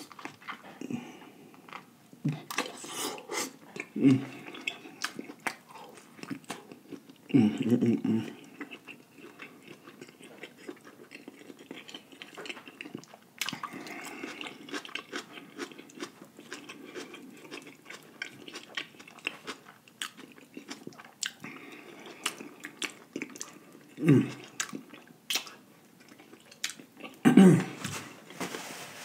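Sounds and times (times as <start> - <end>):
person chewing food: 0.0 - 28.4.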